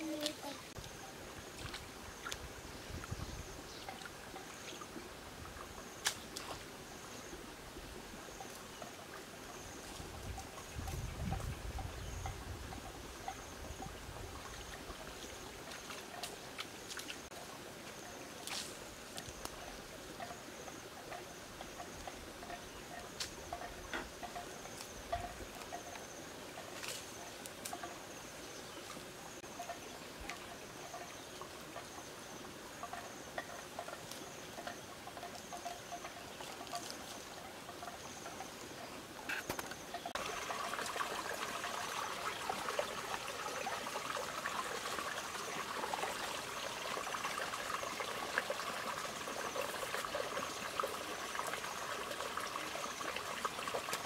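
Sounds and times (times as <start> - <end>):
insects trilling: 8.2 - 54.0.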